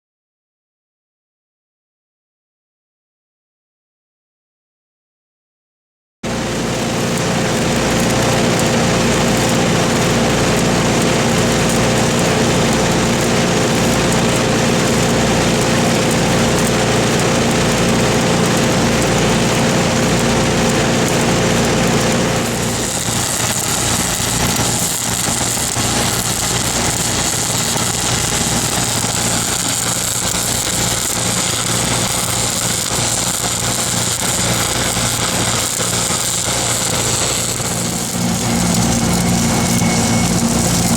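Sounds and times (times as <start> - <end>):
welding arc hissing and crackling: 6.3 - 40.9
welding machine engine running: 6.3 - 40.9.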